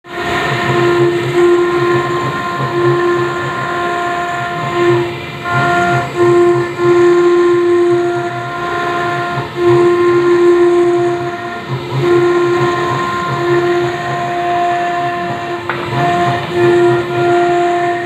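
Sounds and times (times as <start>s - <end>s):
engraving spindle whining: 0.1s - 18.0s.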